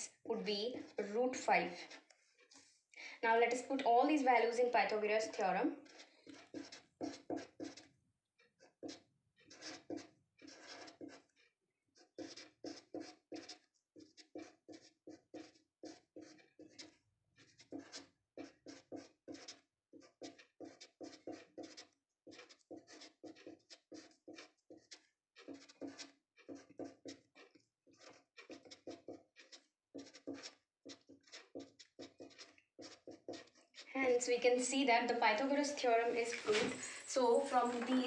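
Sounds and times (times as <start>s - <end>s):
marker scratching on paper: 0.0s - 7.9s, 8.6s - 38.0s.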